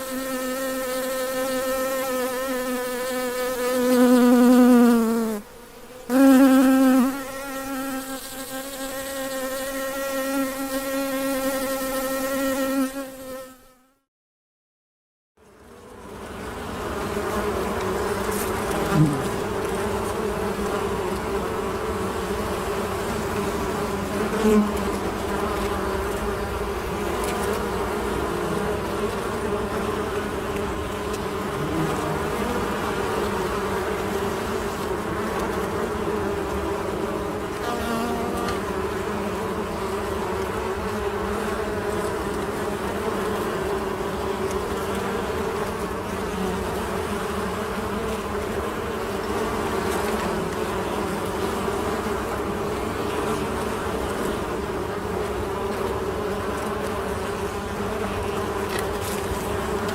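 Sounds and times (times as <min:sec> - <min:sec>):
bees buzzing: 0:00.0 - 0:13.9, 0:15.6 - 0:59.9.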